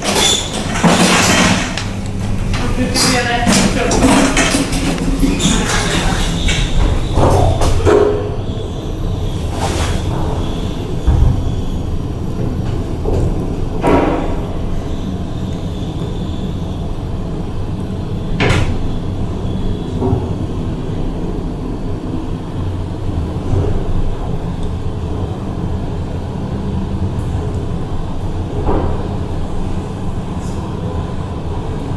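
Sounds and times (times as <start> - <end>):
elevator running: 0.0 - 31.9.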